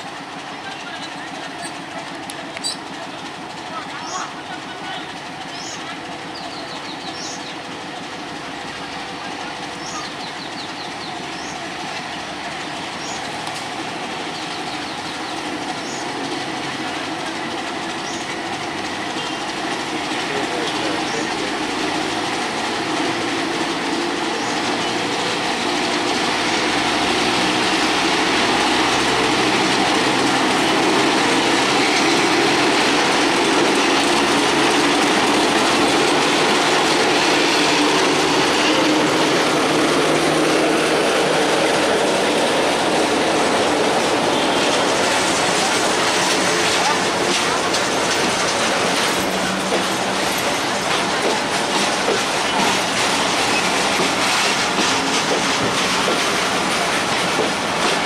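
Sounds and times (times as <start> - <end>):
diesel locomotive engine: 0.0 - 58.0
train wheels on rails: 0.0 - 58.0.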